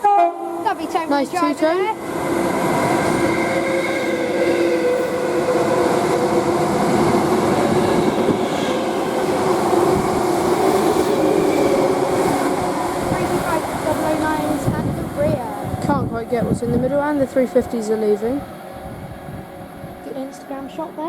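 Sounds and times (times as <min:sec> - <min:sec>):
train wheels rushing on rail: 0:00.0 - 0:21.0.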